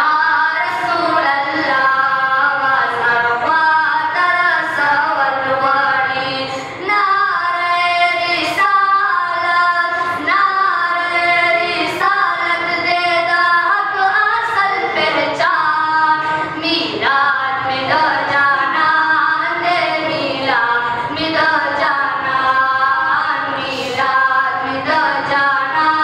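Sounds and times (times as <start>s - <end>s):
boys singing unaccompanied: 0.0s - 26.0s.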